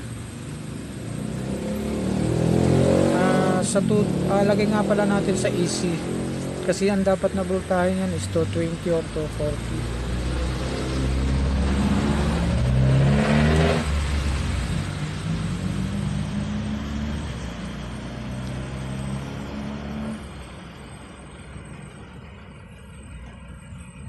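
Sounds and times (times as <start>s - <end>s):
vehicle engine passing by: 0.0s - 24.0s.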